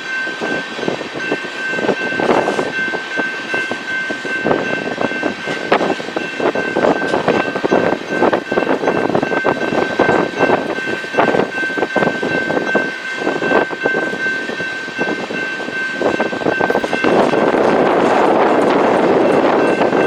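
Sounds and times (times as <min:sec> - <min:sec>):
train wheels clacking over rail joints: 0:00.0 - 0:20.0.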